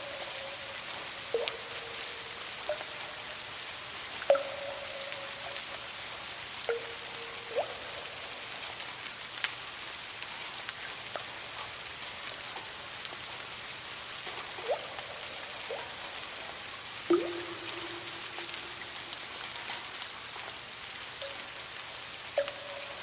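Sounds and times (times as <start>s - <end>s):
soft steady rain: 0.0s - 23.0s
water drips plinking: 0.0s - 23.0s.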